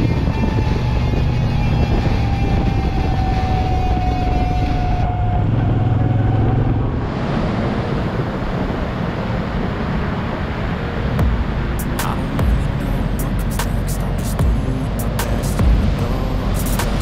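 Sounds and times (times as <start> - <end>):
motorcycle engine hum: 0.0 - 17.0
wind rushing over microphone: 0.0 - 17.0.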